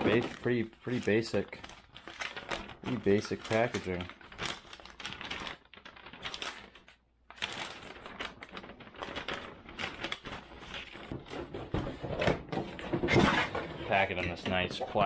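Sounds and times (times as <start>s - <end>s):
paper rustling and crackling: 0.0s - 15.0s.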